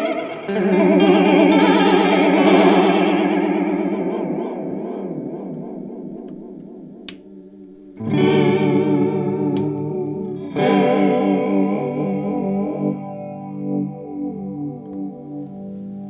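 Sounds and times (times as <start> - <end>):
electric guitar chords with chorus: 0.0 - 16.0.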